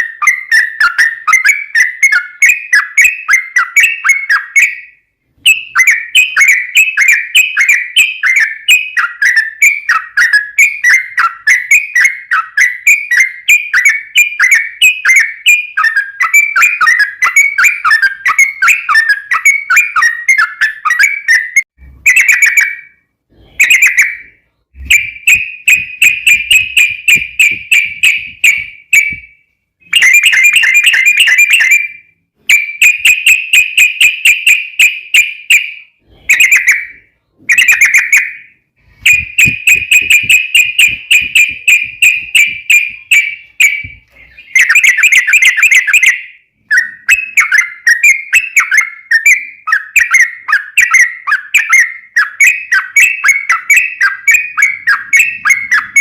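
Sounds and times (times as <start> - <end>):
bulbul singing warbling chirps: 0.0 - 56.0.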